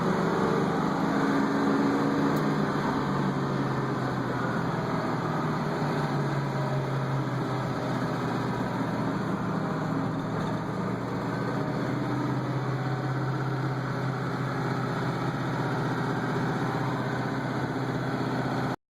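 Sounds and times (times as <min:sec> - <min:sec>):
engine running: 0:00.0 - 0:18.8.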